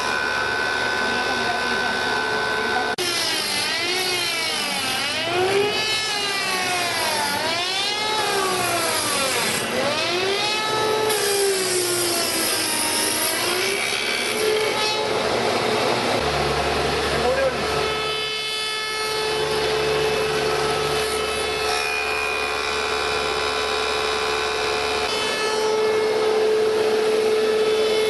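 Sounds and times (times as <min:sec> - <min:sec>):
spinning cutter whine shaping wood: 0:00.0 - 0:28.0.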